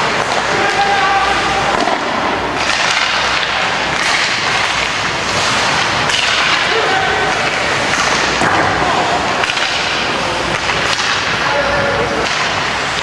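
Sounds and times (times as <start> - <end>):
crowd noise: 0.0 - 13.0
hockey sticks and puck cracking: 0.0 - 13.0
skates on ice: 0.0 - 13.0.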